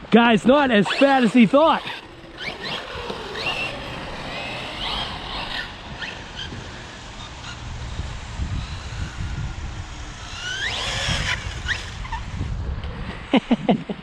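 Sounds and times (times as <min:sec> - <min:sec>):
tyres and wind rumble: 0:00.0 - 0:14.0
electric motor whining: 0:00.6 - 0:13.2.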